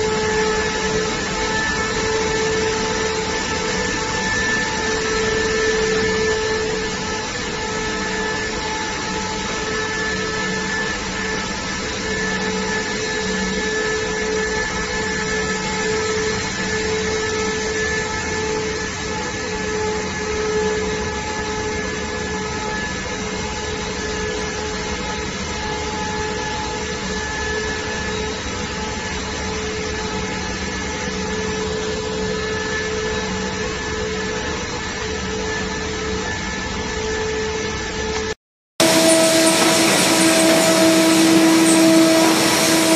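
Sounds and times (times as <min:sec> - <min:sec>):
machine whining tones: 0:00.0 - 0:42.9
machinery mechanical drone: 0:00.0 - 0:42.9.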